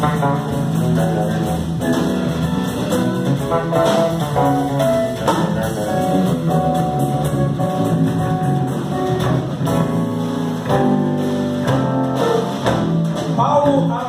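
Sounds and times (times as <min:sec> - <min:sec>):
drum kit: 0:00.0 - 0:14.0
electric bass guitar: 0:00.0 - 0:14.0.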